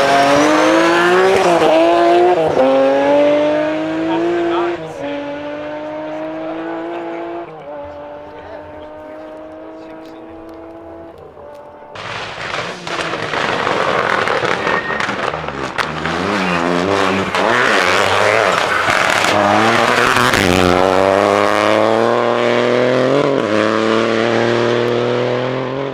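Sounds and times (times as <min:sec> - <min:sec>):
rally car engine revving: 0:00.0 - 0:25.9.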